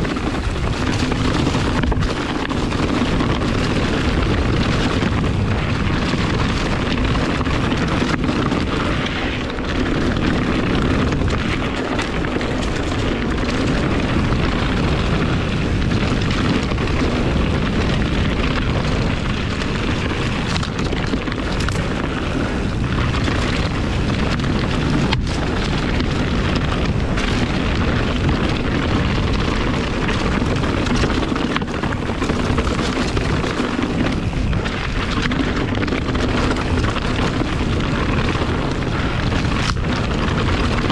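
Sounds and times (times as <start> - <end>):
bike tyres rumbling over dirt: 0.0 - 40.9
wind buffeting microphone: 0.0 - 40.9.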